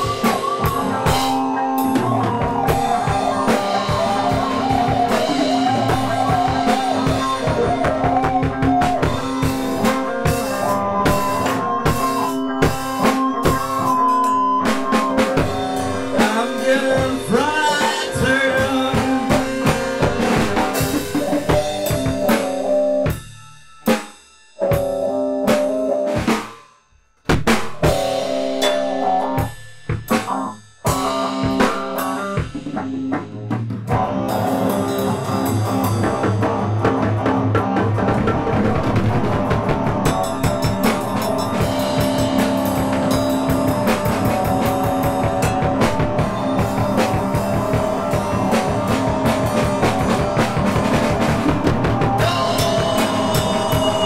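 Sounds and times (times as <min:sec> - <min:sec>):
band music with drums and guitar: 0:00.0 - 0:54.0.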